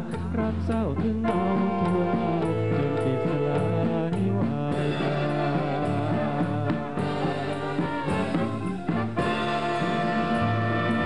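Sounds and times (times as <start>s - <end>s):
brass section: 0.0s - 11.0s
drum kit cymbal beat: 0.0s - 11.0s
saxophone: 0.0s - 11.0s.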